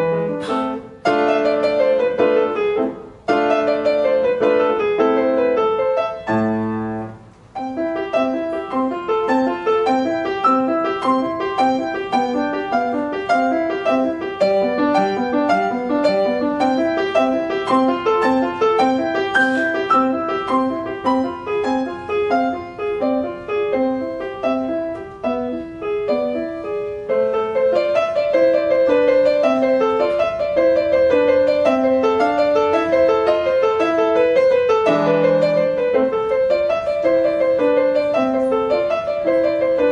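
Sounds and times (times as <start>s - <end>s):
solo piano classical piece: 0.0s - 39.9s.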